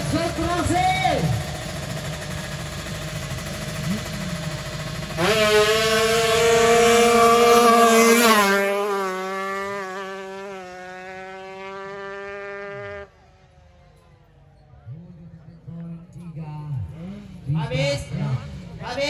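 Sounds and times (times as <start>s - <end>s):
motorcycle engines screaming: 0.0s - 16.2s.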